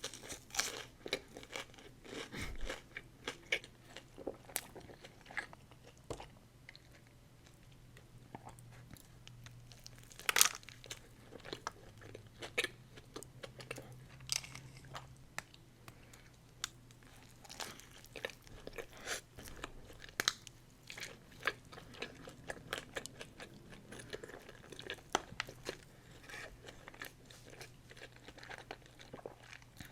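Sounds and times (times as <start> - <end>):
crunching and chewing: 0.0 - 29.9.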